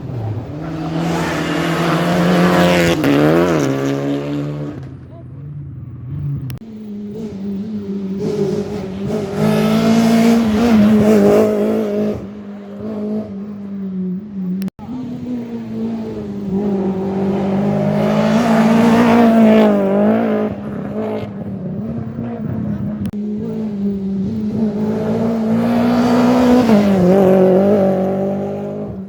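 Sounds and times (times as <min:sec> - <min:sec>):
rally cars passing at full throttle: 0:00.0 - 0:29.0.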